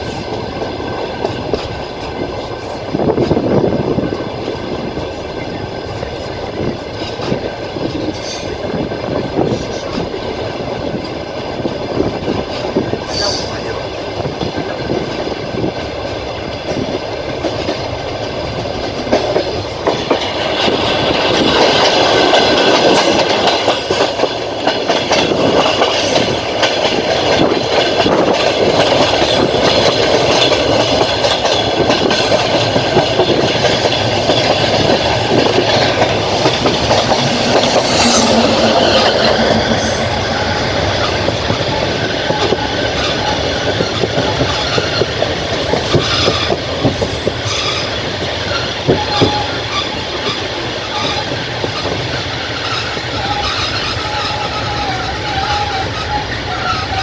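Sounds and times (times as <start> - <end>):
train wheels clacking over rail joints: 0.0 - 57.0
wheels squealing on rail: 4.9 - 10.2, 12.0 - 15.7, 19.0 - 57.0.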